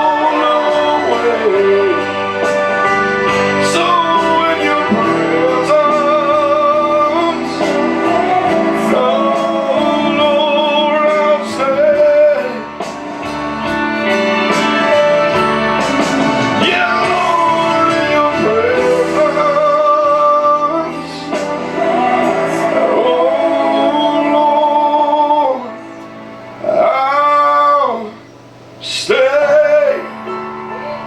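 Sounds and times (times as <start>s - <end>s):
gospel singing: 0.0s - 31.0s
instrumental backing music: 0.0s - 31.0s.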